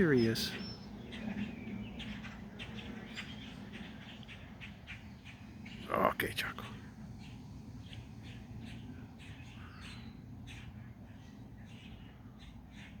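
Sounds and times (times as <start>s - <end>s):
steady low rumble: 0.0s - 12.8s
birds chirping: 0.0s - 13.0s.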